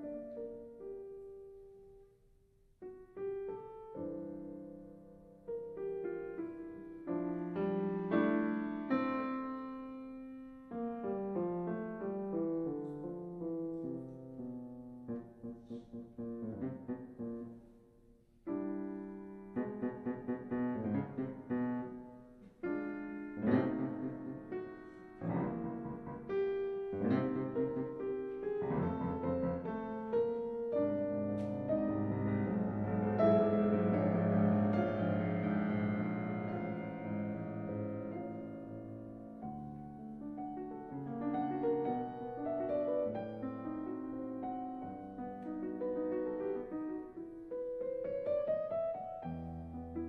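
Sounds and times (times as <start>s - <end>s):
solo piano: 0.0s - 50.0s.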